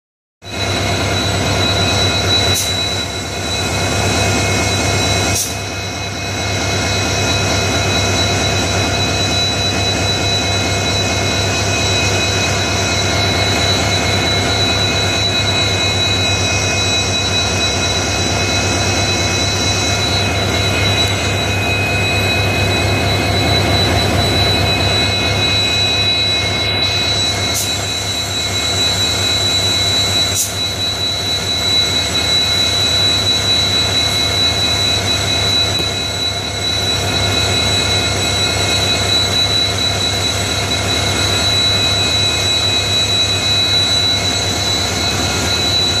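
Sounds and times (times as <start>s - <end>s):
constant high whine: 0.4s - 46.0s
diesel engine throbbing: 0.5s - 46.0s.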